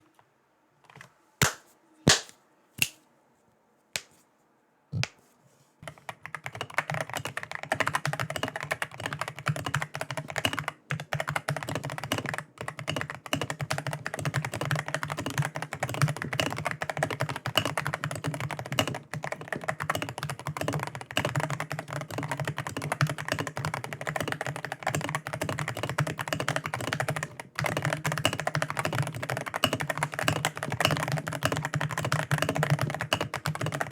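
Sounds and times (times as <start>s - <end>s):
mechanical keyboard typing: 5.8s - 33.9s.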